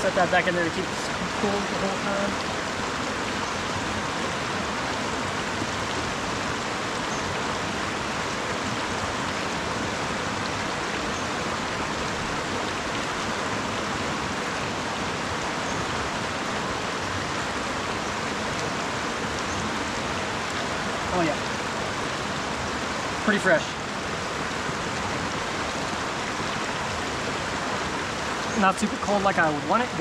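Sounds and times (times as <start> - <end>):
river rushing: 0.0 - 30.0.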